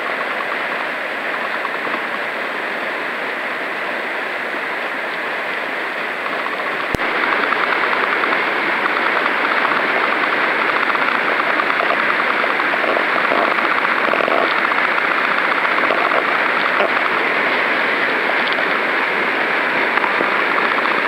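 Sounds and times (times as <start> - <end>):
whitewater rapids rushing: 0.0 - 21.0.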